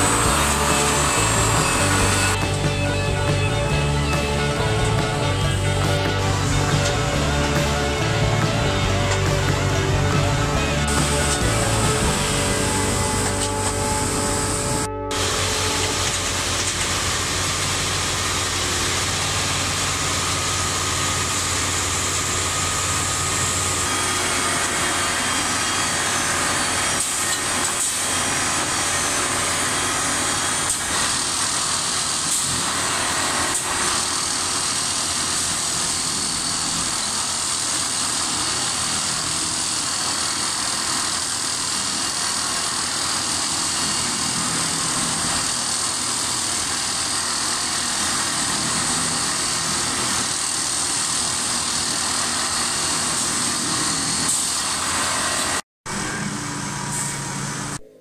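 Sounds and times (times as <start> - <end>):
loud machine engine running: 0.0 - 57.9.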